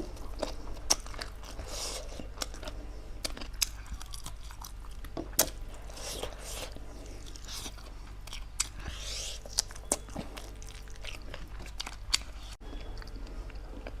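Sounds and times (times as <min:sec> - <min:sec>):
chewing meat: 0:00.0 - 0:14.0.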